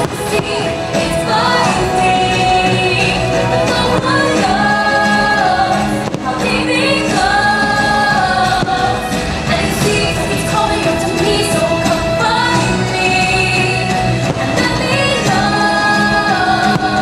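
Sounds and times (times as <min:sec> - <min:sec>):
choir singing long notes: 0:00.0 - 0:17.0
music with singing voices: 0:00.0 - 0:17.0.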